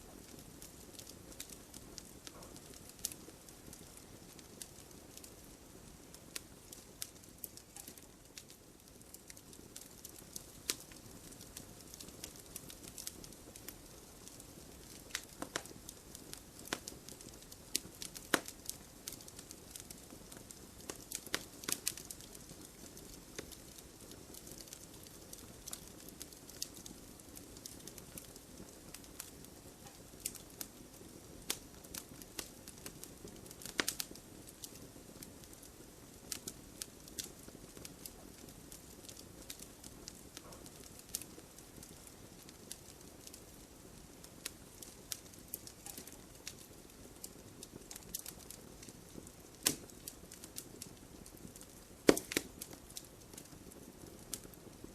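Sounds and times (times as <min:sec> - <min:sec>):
campfire crackling and popping: 0:00.0 - 0:54.9
steady low hiss: 0:00.0 - 0:54.9.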